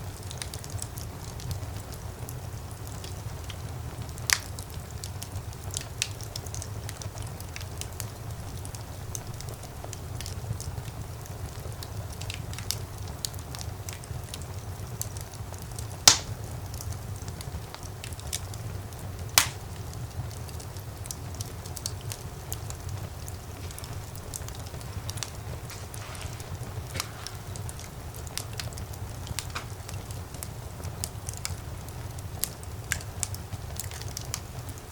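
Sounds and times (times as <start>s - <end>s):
fireplace fire crackling: 0.0s - 34.9s
loud pops of fire: 0.1s - 34.9s.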